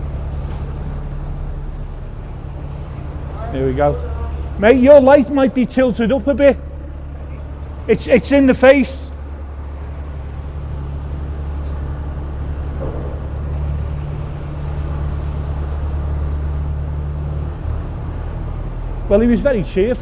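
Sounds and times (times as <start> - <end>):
diesel boat engines droning: 0.0 - 20.0.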